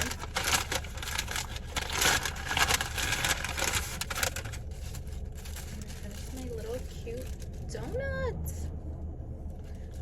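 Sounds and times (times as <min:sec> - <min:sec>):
crinkling and rustling handling: 0:00.0 - 0:08.1
low steady hum: 0:00.0 - 0:10.0.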